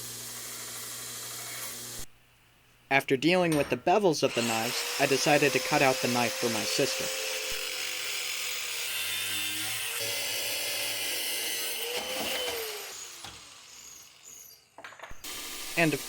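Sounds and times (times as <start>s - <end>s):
power tool grinding steel: 0.0s - 2.1s, 4.3s - 16.0s.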